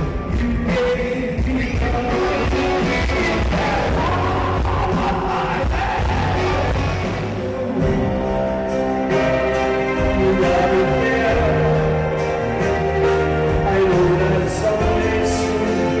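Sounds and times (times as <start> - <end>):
live rock band with singer: 0.0 - 16.0.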